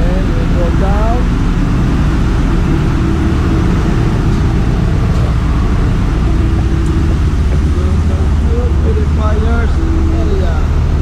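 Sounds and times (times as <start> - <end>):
engine-room machinery drone: 0.0 - 11.0
faint steady hum: 0.0 - 11.0.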